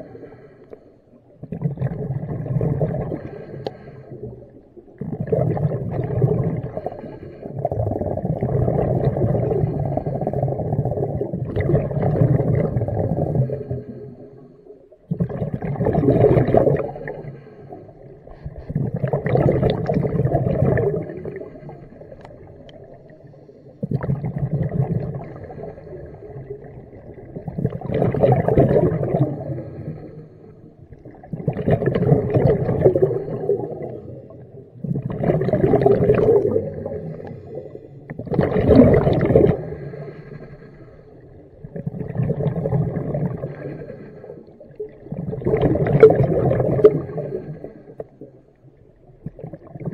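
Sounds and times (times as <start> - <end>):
exhaled air bubbling underwater: 0.0 - 49.9
low underwater rumble: 0.0 - 49.9.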